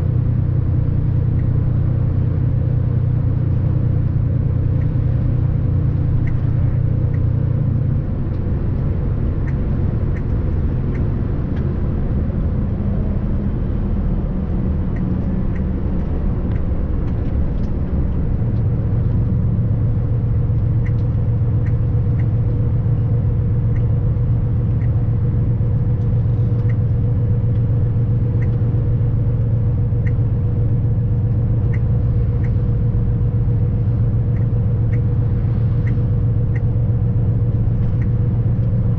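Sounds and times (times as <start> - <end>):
constant hum: 0.0 - 38.9
road noise: 0.0 - 38.9
vehicle engine drone: 0.0 - 38.9.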